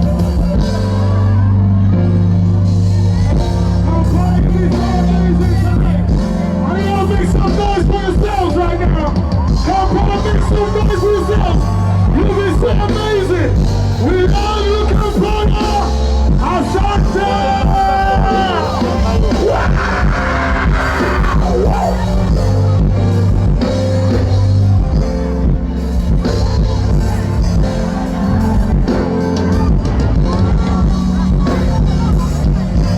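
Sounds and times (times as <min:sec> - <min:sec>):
live band with heavy bass and drums: 0:00.0 - 0:32.9
sliding vocal melody: 0:00.0 - 0:32.9.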